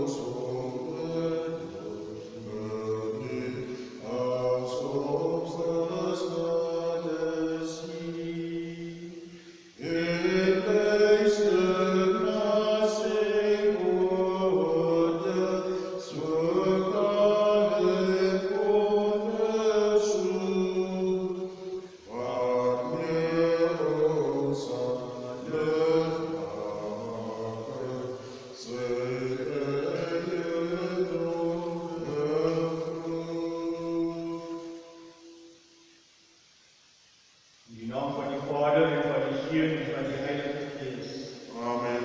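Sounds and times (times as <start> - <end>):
hymn singing: 0.0 - 36.2, 37.5 - 42.0.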